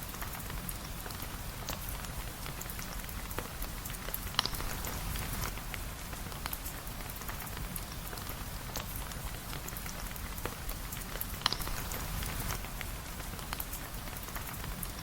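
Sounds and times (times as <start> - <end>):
rain falling on a surface: 0.0 - 15.0
drip-like ticks: 0.1 - 15.0.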